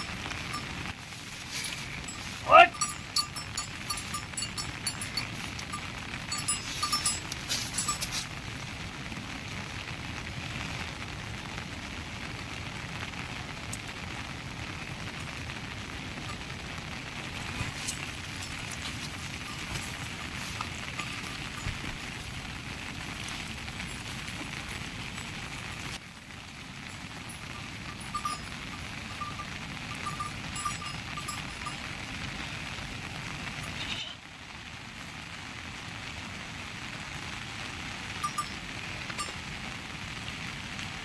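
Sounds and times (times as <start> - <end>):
rain drop ticks: 0.0 - 41.0
steady rain hiss: 0.0 - 41.0.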